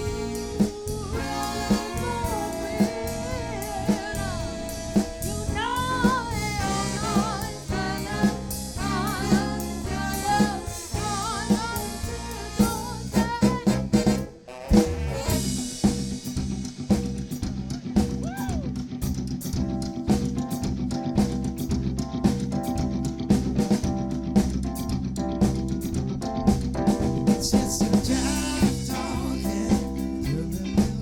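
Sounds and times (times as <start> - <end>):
drum fill: 0.0 - 31.0
live soul funk band: 0.0 - 31.0.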